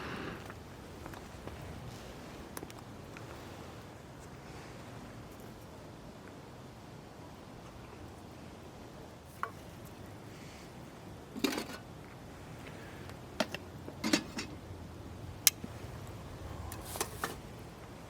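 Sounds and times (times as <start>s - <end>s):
steady low hiss: 0.0s - 18.0s.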